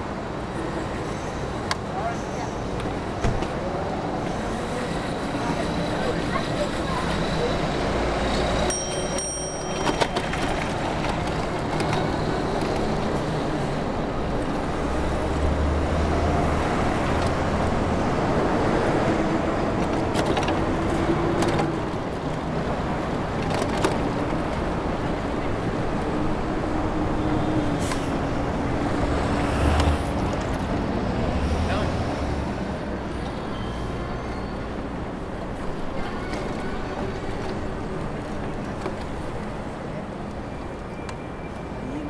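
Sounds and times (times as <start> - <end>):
city traffic: 0.0 - 42.0.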